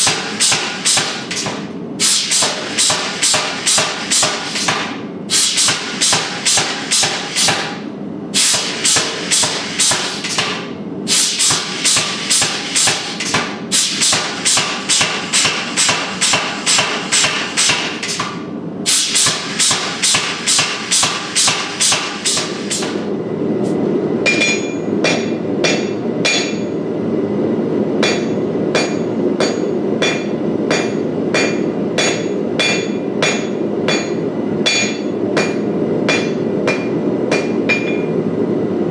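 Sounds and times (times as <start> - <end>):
hammer striking steel: 0.0 - 7.8, 8.4 - 23.1, 24.2 - 26.7, 28.0 - 38.2.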